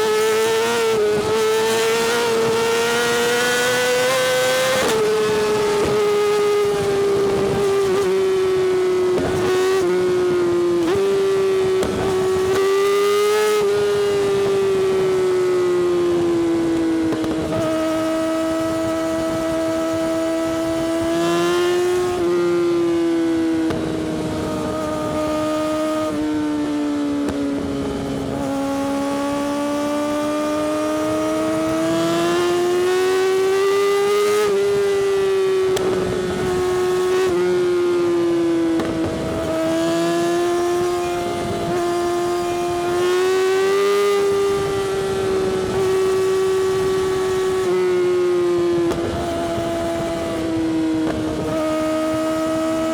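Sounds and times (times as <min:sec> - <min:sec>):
motorcycle engine at high revs: 0:00.0 - 0:52.9.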